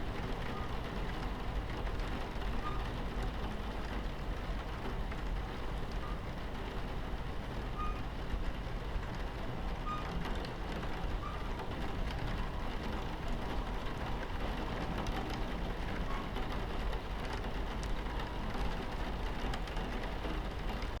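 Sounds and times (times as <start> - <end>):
moving train rumble: 0.0 - 21.0
rain pattering on a window: 0.0 - 21.0.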